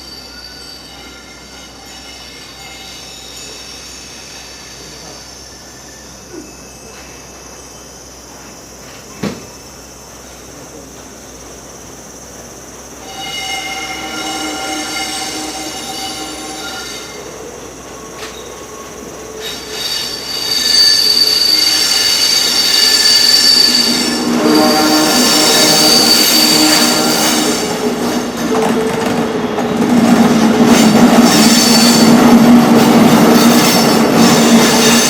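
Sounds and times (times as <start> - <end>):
train wheels squealing on rails: 0.0 - 35.0.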